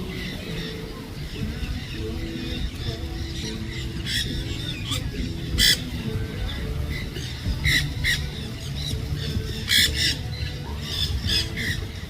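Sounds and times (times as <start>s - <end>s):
birds squawking: 0.0s - 12.0s.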